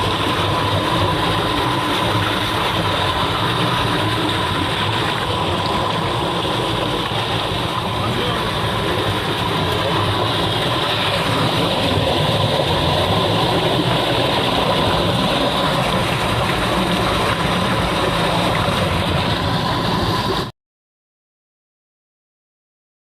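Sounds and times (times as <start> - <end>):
running water rushing: 0.0 - 20.5.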